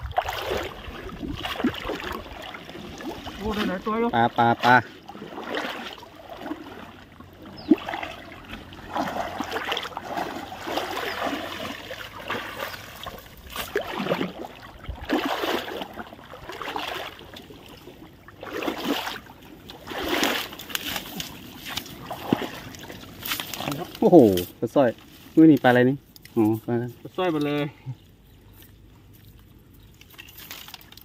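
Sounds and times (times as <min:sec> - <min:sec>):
shallow water splashing: 0:00.0 - 0:26.3.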